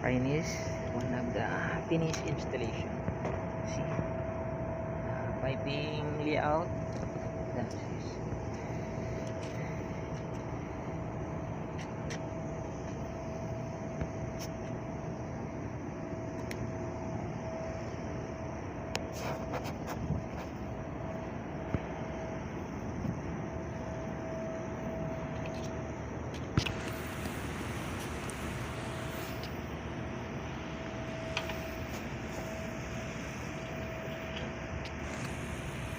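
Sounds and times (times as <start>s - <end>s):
air conditioner units humming: 0.0s - 35.9s
faint constant whine: 0.0s - 35.9s
steady mechanical noise: 0.0s - 35.9s.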